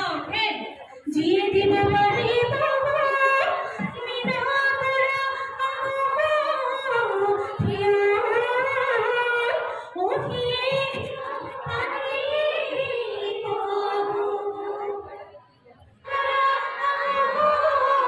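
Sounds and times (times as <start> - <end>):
women singing held notes: 0.0 - 18.0.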